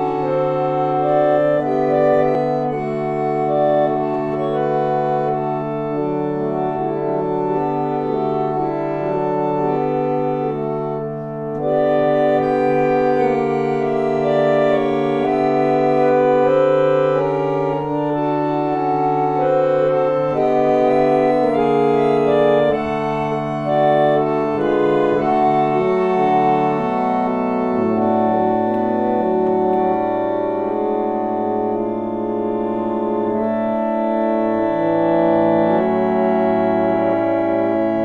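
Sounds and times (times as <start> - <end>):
harmonium chords: 0.0 - 38.0.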